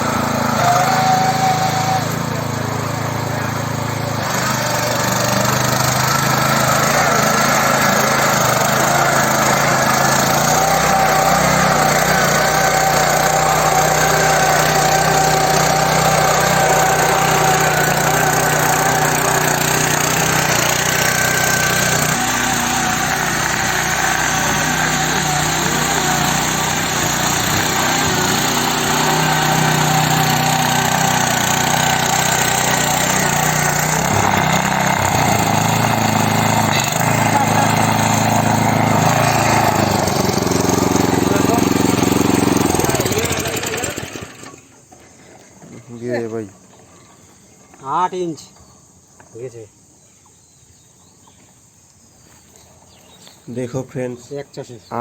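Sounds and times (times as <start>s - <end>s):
power tiller engine running: 0.0s - 48.0s.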